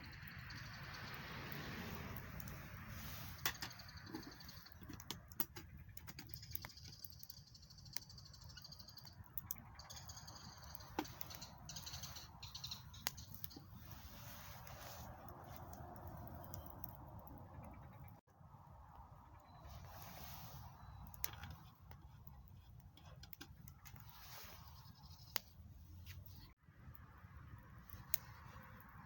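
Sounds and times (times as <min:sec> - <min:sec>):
campfire crackling and popping: 0:00.0 - 0:18.2, 0:20.9 - 0:29.0.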